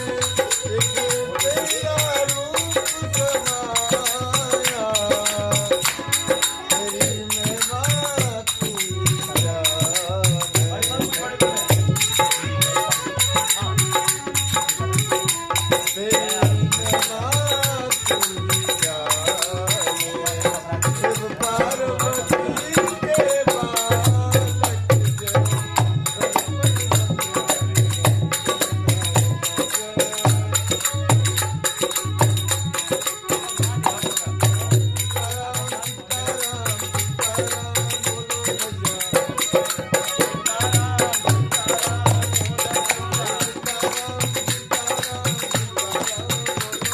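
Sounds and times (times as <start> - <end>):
hand percussion: 0.0 - 46.9.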